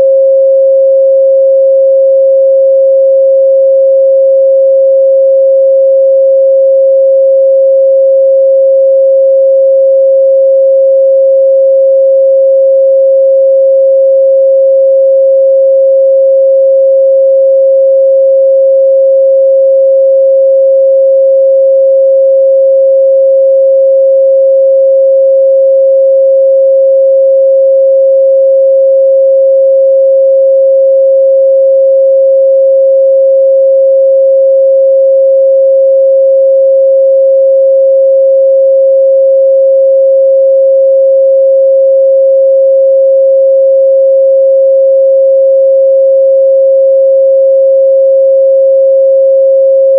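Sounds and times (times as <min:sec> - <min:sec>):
sine wave test tone: 0:00.0 - 0:49.9.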